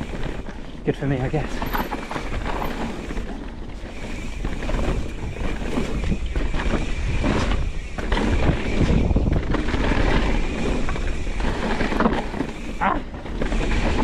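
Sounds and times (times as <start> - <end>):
bike knocks and rattles: 0.0 - 14.0
tyre rumble on dirt trail: 0.0 - 14.0
wind buffeting microphone: 0.0 - 14.0.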